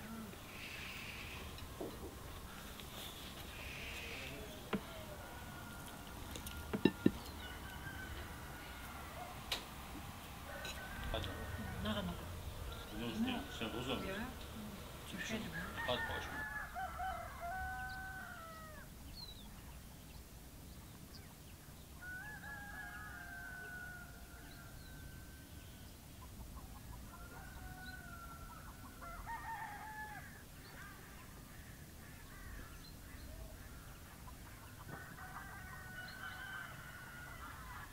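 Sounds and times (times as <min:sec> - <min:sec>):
roosters crowing: 0:00.0 - 0:19.0, 0:22.0 - 0:37.9.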